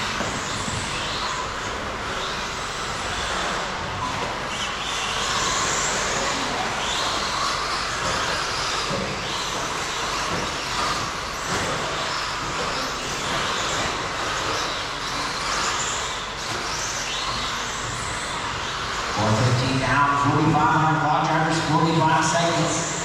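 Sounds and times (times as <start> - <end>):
electric motors whining: 0.0 - 23.0.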